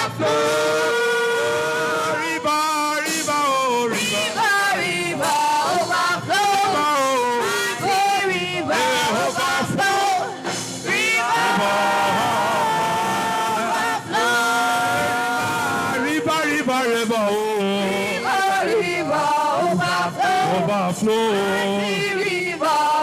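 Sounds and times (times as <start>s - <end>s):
man singing gospel song: 0.0s - 23.0s.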